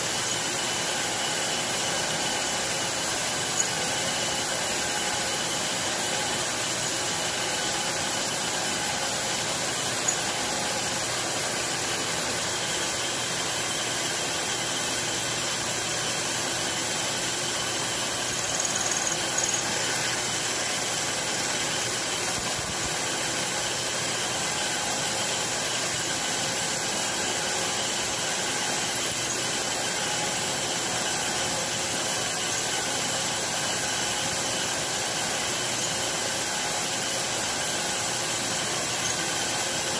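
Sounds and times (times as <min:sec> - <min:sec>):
milling machine drilling metal: 0:00.0 - 0:39.9.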